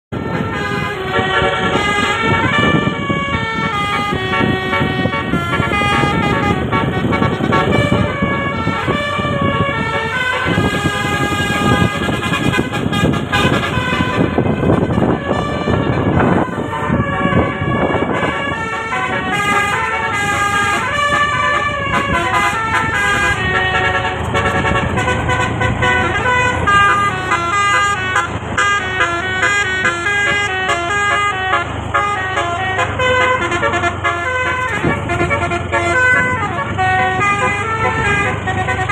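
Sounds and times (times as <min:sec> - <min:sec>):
multi-note bus air horn melody: 0:00.1 - 0:38.9.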